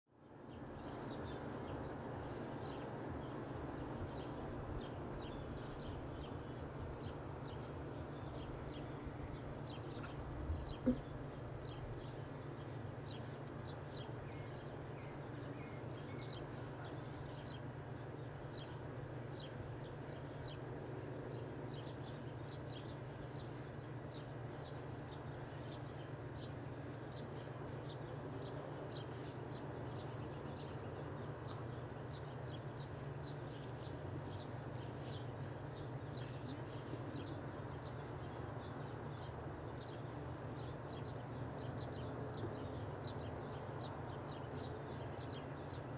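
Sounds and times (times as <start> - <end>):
small birds chirping: 0.2 - 45.9
steady low hum: 0.2 - 45.9.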